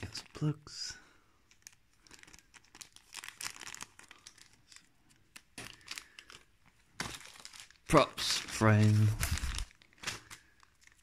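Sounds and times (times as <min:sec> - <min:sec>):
plastic bag crinkling: 0:01.5 - 0:11.0.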